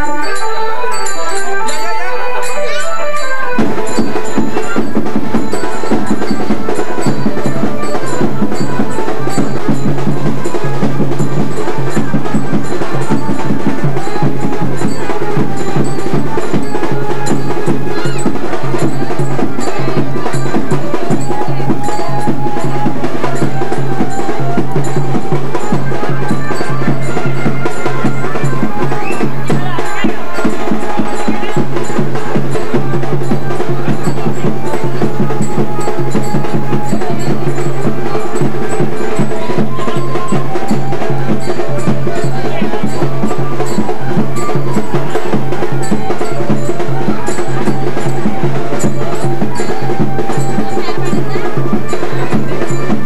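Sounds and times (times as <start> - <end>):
bell-like ringing: 0.0 - 53.0
music with rhythmic percussion: 0.0 - 53.0.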